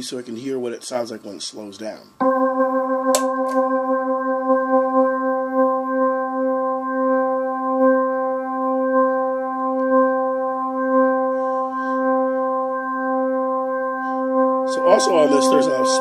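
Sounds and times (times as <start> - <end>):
organ note through rotary speaker: 2.2 - 16.0.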